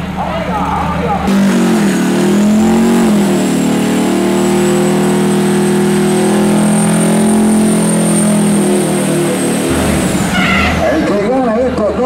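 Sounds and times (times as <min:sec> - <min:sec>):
diesel truck engine at high revs: 0:00.0 - 0:12.0.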